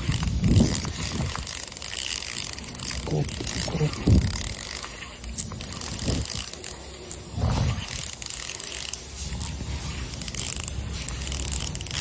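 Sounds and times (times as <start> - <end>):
fishing reel ratchet clicking: 0.0 - 12.0.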